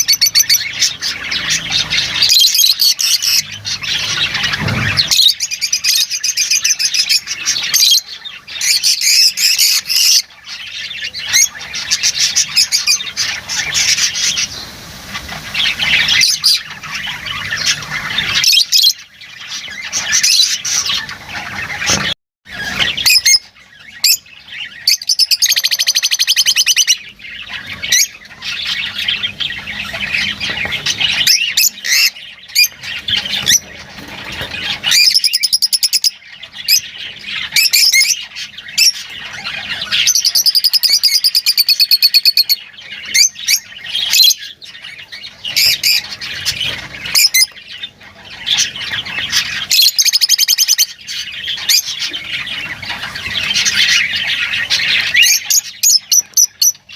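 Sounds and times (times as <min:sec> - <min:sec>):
lovebirds chirping and squawking: 0:00.0 - 0:56.9.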